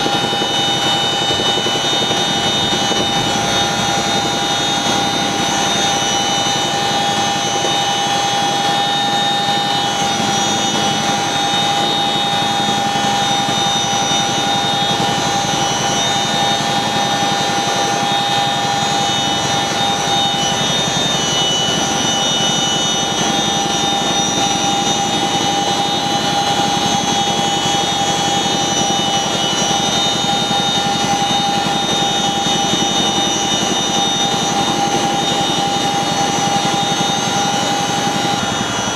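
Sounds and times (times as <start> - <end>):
helicopter rotor and turbine noise: 0.0 - 38.9
high turbine whine: 0.0 - 38.9.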